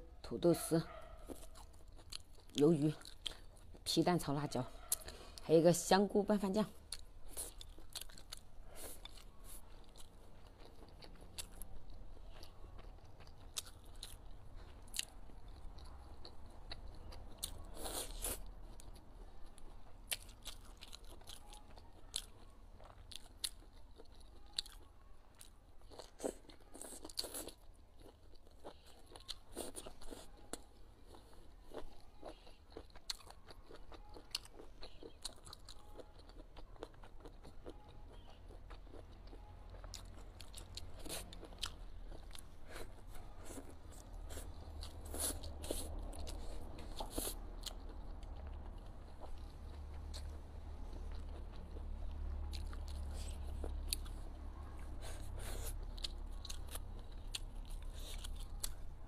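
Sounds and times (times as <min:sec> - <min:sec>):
chewing crunchy fried food: 0:00.3 - 0:59.0.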